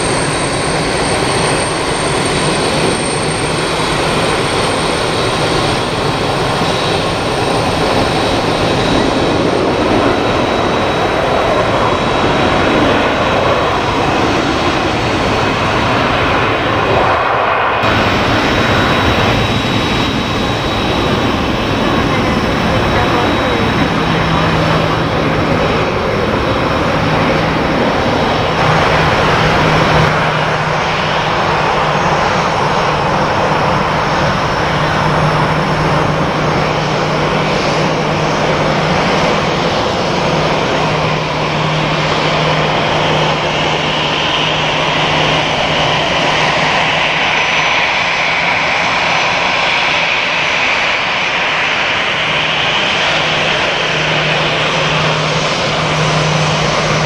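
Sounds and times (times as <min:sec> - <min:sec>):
high jet engine whine: 0:00.0 - 0:57.0
jet engines running: 0:00.0 - 0:57.0.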